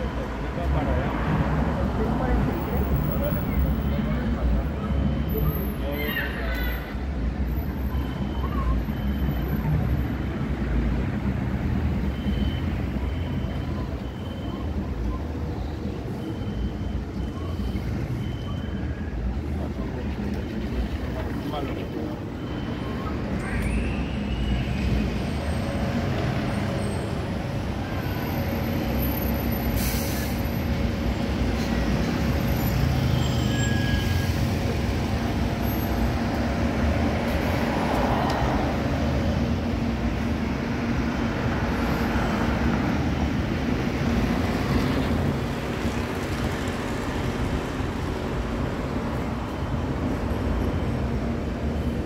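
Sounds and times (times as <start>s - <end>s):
heavy road traffic hum: 0.0s - 52.0s.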